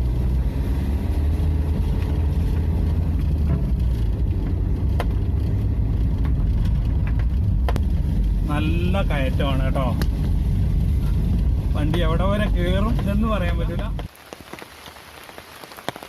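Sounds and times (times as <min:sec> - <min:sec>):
vehicle engine under load: 0:00.0 - 0:14.1.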